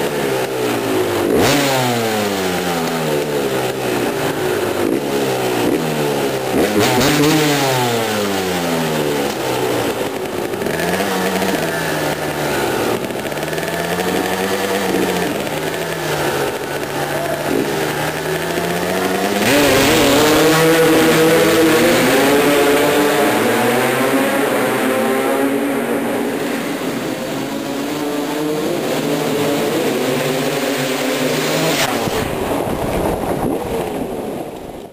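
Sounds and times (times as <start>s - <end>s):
dirt bike engine revving: 0.0s - 32.7s.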